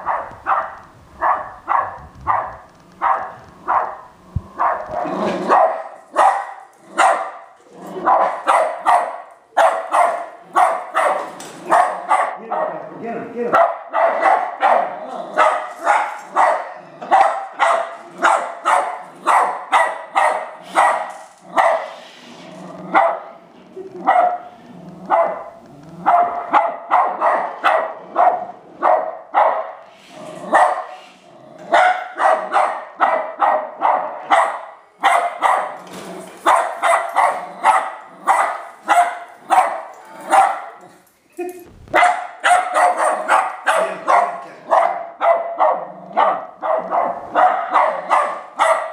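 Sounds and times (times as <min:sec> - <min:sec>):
dog barking rapidly: 0:00.0 - 0:12.8, 0:13.5 - 0:22.0, 0:22.9 - 0:23.3, 0:24.0 - 0:24.4, 0:25.1 - 0:29.8, 0:30.5 - 0:31.0, 0:31.7 - 0:35.8, 0:36.4 - 0:40.8, 0:41.9 - 0:48.9.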